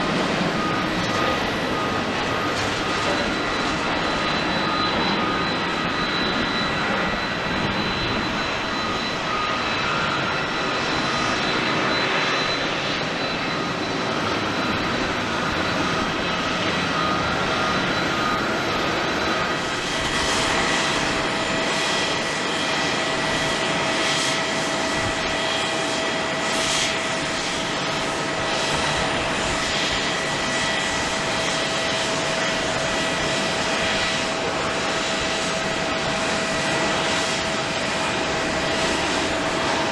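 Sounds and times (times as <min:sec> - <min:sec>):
jet airliner engines running: 0:00.0 - 0:39.9
jet engine whine: 0:00.0 - 0:39.9.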